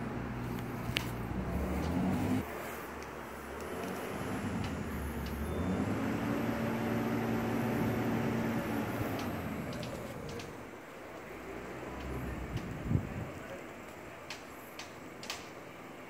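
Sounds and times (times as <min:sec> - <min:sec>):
passing engine hum: 0:00.0 - 0:13.4.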